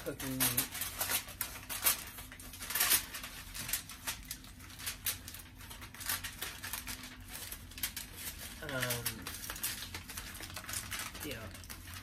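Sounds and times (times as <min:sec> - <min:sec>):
aluminum foil crinkling: 0:00.0 - 0:12.0.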